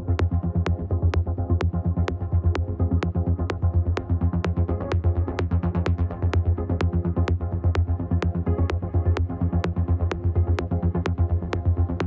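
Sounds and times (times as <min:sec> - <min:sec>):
trance music with steady beat: 0:00.0 - 0:12.0.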